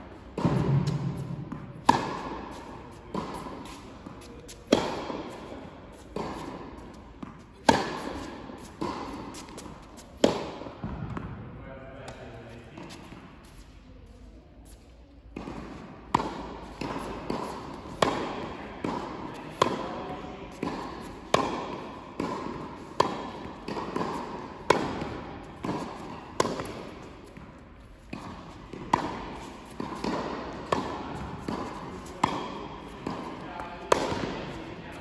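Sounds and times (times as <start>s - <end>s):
tennis balls struck with racquets: 0.1s - 11.5s, 15.3s - 35.0s.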